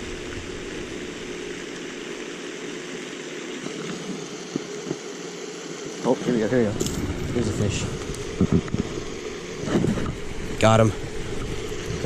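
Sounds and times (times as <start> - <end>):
hissing outdoor noise: 0.0 - 12.0.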